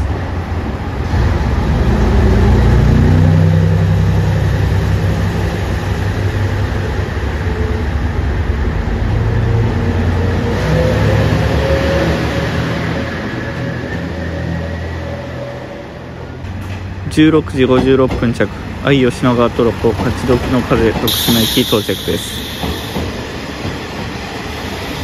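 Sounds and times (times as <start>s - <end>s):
train diesel engines revving: 0.0s - 17.4s, 18.0s - 25.0s.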